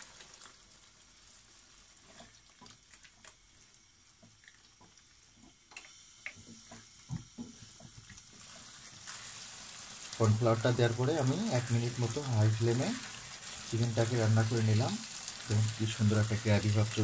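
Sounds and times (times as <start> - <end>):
gravy bubbling in a pan: 0.0 - 17.0.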